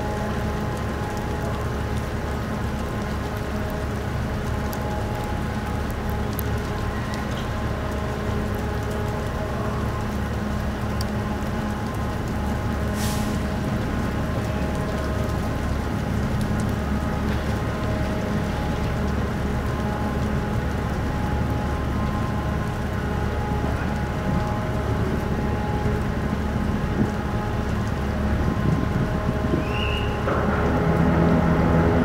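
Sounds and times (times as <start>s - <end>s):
ship engines droning: 0.0s - 32.0s.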